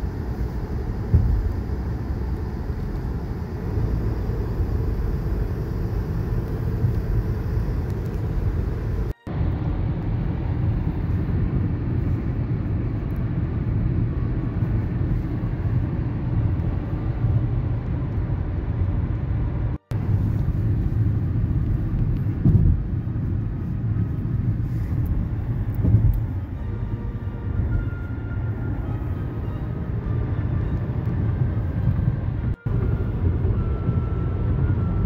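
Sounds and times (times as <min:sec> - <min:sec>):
road and tyre rumble in car: 0:00.0 - 0:35.0.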